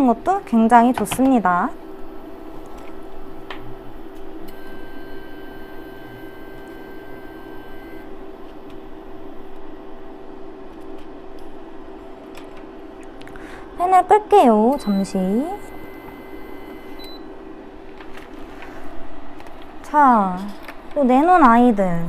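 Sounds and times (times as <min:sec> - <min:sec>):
electrical appliance hum: 0:00.0 - 0:22.0.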